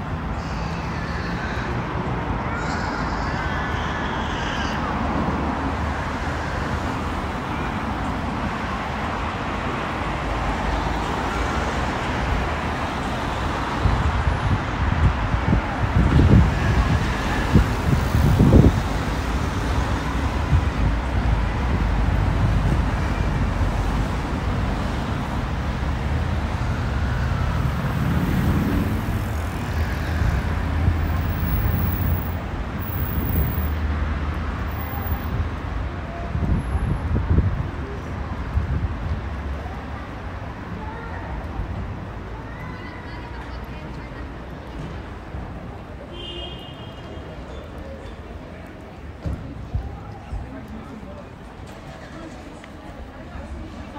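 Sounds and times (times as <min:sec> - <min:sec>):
traffic hum: 0:00.0 - 0:53.9.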